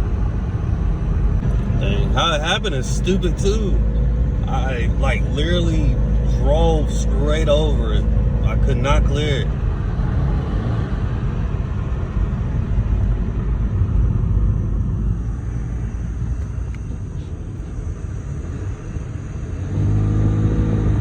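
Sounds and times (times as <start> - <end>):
car low rumble: 0.0 - 21.0
low pitched drone: 0.0 - 21.0.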